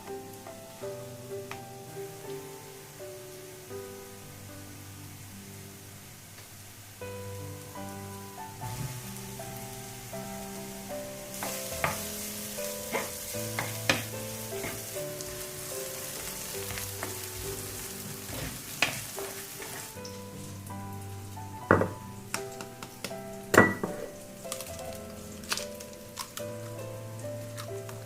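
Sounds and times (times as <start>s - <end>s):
food sizzling in hot oil: 0.0s - 28.0s
soft background music: 0.0s - 28.0s.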